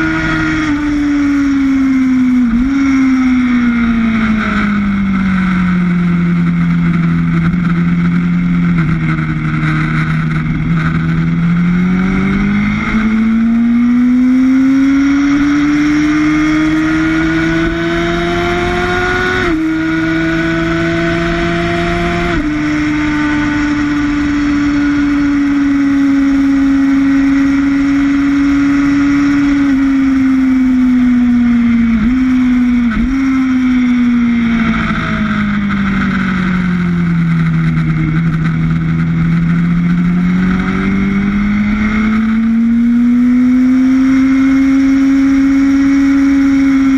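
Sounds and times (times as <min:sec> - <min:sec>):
motorcycle engine at speed: 0:00.0 - 0:46.9
wind noise: 0:00.0 - 0:46.9.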